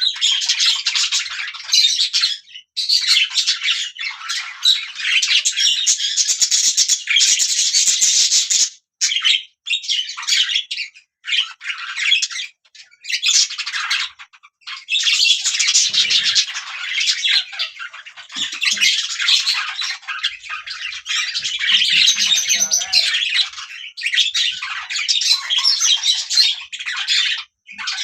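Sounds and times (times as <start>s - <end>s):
budgerigars chirping and chattering: 0.0s - 28.0s.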